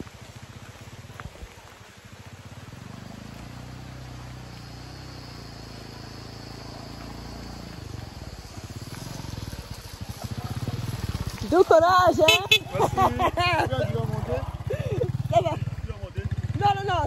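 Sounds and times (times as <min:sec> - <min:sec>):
small motorcycle engine running: 0:00.0 - 0:17.0.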